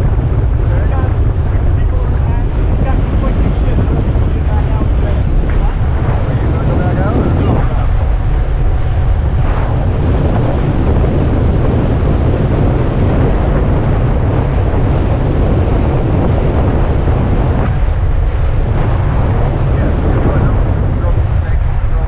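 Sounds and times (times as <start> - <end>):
water rushing: 0.0 - 22.0
wind buffeting microphone: 0.0 - 22.0.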